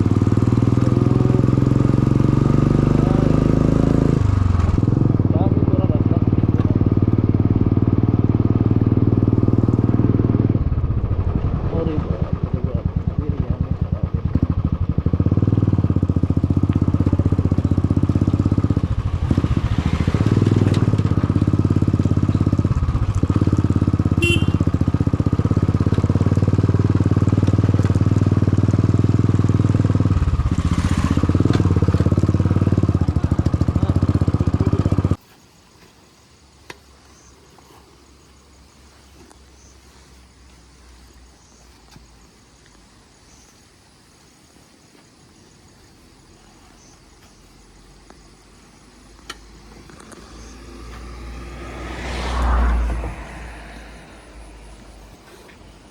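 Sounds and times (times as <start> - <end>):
motorcycle engine riding: 0.0 - 55.9.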